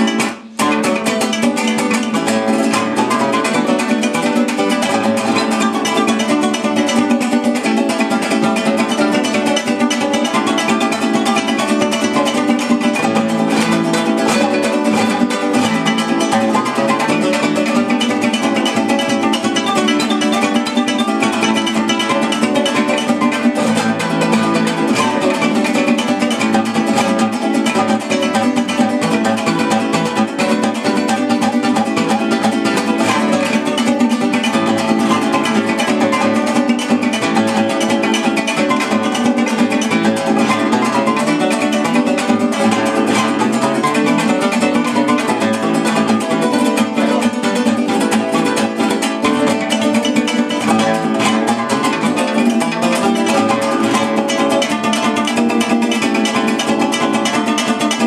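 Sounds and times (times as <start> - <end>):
plucked string notes: 0.0 - 58.0
steady strumming: 0.0 - 58.0.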